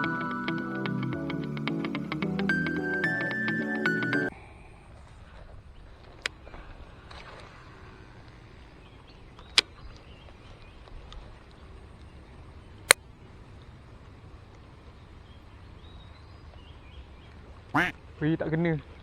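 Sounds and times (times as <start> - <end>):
faint outdoor background: 0.0 - 19.0.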